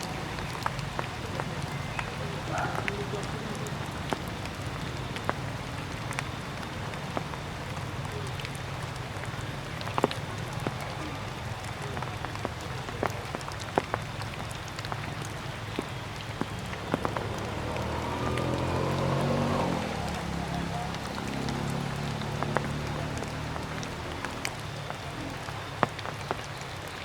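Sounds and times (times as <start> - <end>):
rainwater dripping on leaves: 0.0 - 27.0.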